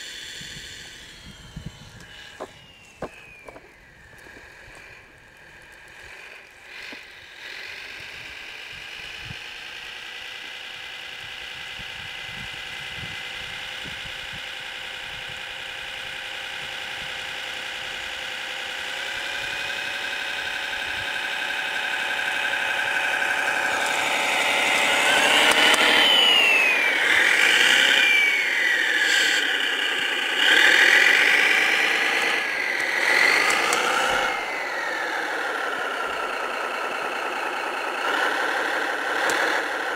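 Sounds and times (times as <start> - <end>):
simulated engine from small speaker: 0.0 - 39.9.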